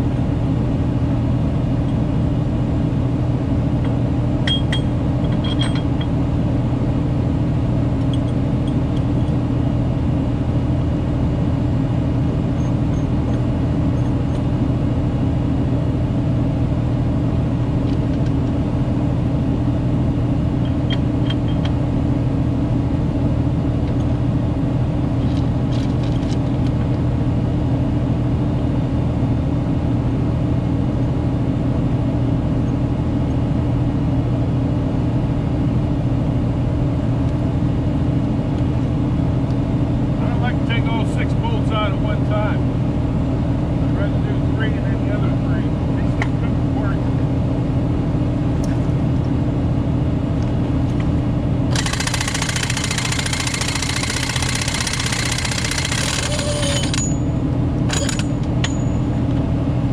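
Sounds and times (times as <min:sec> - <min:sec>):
engine droning steadily: 0:00.0 - 0:59.9.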